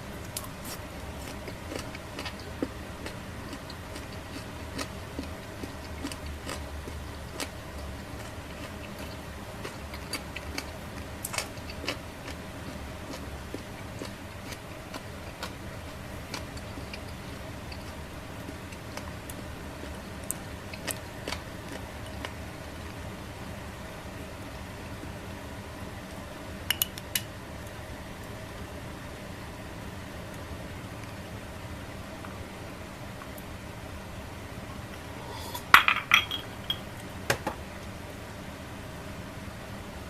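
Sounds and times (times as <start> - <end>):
steady low hum: 0.0 - 26.7, 27.3 - 40.0.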